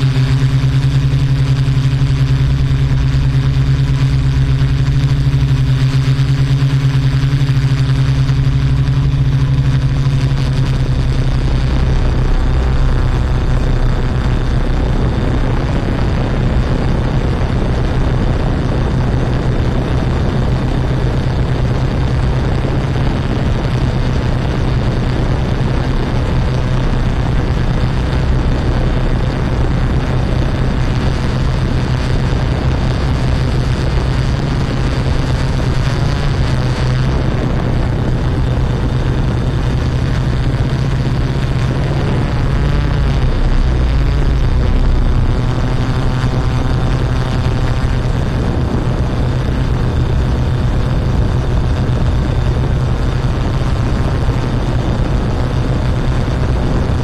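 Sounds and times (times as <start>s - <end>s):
drone motors humming: 0.0s - 57.0s
propeller rushing noise: 0.0s - 57.0s.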